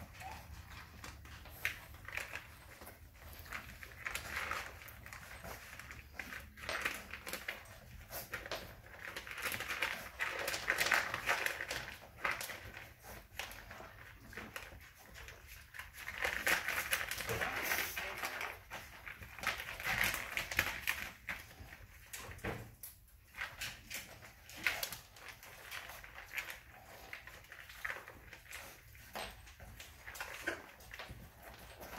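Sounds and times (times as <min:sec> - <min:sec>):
puppies crunching kibble: 0:00.0 - 0:31.9.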